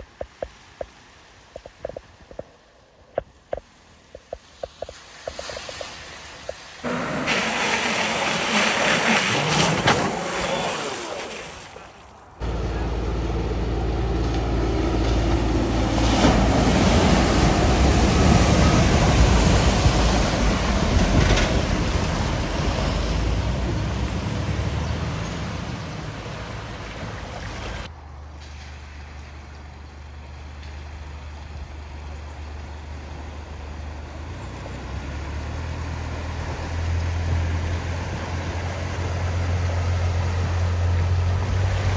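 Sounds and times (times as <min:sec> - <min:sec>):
water rushing and splashing: 0:00.0 - 0:29.8, 0:32.6 - 0:41.9
vehicle engine: 0:03.5 - 0:41.9.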